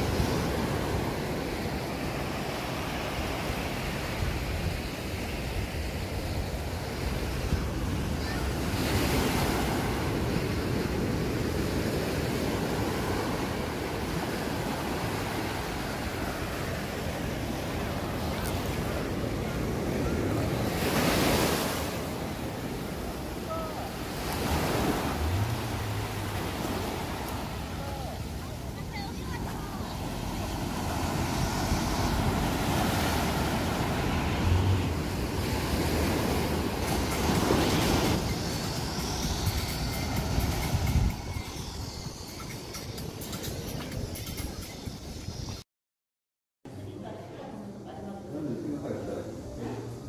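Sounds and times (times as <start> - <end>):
small waves on sandy beach: 0.0 - 40.9.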